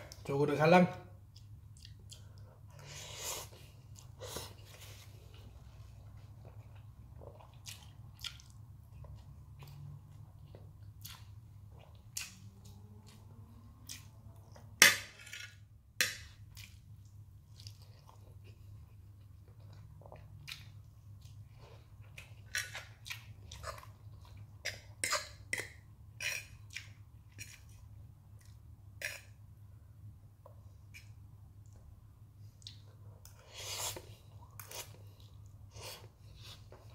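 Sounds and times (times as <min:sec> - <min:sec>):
low steady hum: 0:00.0 - 0:36.9
person chewing and smacking: 0:01.2 - 0:05.5, 0:06.1 - 0:14.8, 0:16.0 - 0:29.4, 0:30.4 - 0:36.9.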